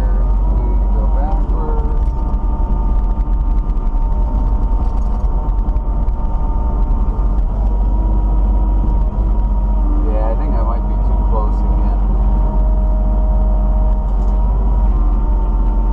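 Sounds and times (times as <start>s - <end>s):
excavator diesel engine running: 0.0s - 15.9s.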